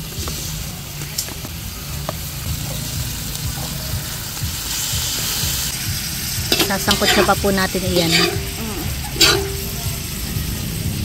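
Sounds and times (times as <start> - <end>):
pork sizzling in hot oil: 0.0 - 11.0.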